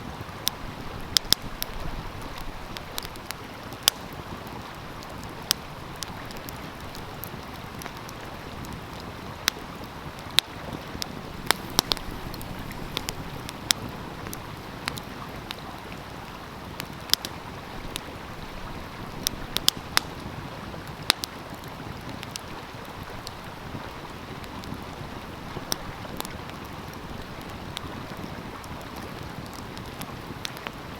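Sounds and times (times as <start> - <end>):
flowing stream: 0.0 - 30.9
wood fire crackling: 0.1 - 30.9.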